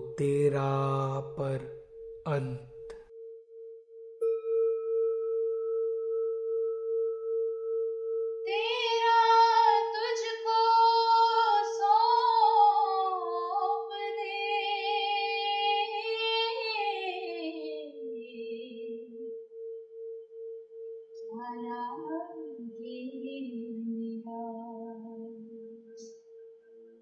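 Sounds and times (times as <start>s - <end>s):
pulsing ringing drone: 0.0s - 27.0s.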